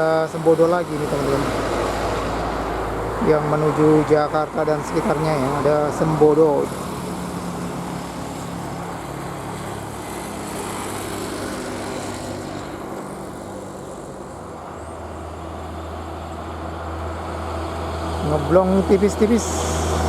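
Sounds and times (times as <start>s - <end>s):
diesel bus engine drone: 0.0s - 20.0s
road noise: 0.0s - 20.0s.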